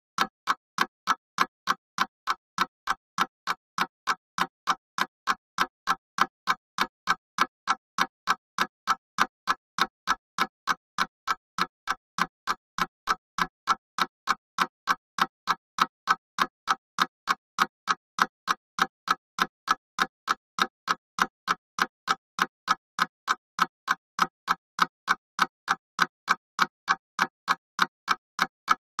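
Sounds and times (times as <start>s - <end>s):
mechanical clock ticking: 0.2s - 29.0s.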